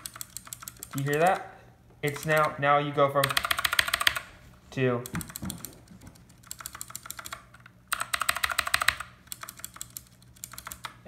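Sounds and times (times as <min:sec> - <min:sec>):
quiet mechanical keyboard typing: 0:00.0 - 0:02.6, 0:03.2 - 0:04.3, 0:05.0 - 0:11.0.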